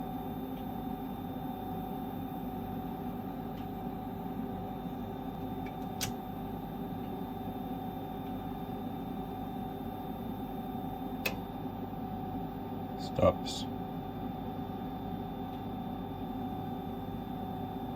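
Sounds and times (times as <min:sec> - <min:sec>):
inverter electrical hum and whine: 0:00.0 - 0:17.9.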